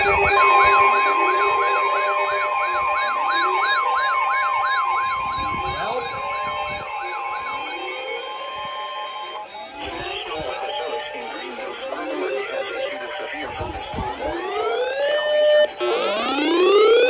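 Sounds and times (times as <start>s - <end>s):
steady warning alarm tone: 0.0s - 17.0s
wavering electronic siren: 0.0s - 17.0s.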